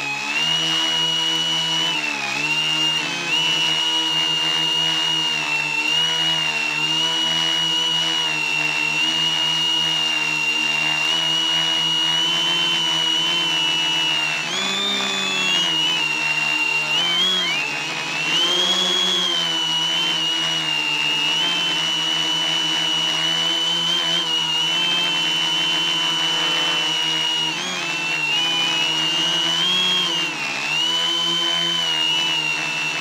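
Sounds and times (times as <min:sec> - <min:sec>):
drone motors and propellers whining: 0:00.0 - 0:33.0.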